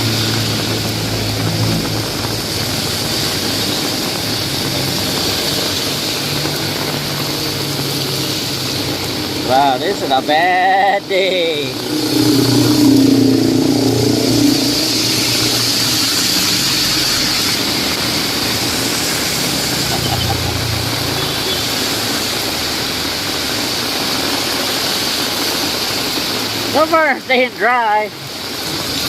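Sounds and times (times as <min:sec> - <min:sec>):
heavy rain: 0:00.0 - 0:29.0
vehicles passing on wet road: 0:00.0 - 0:29.0.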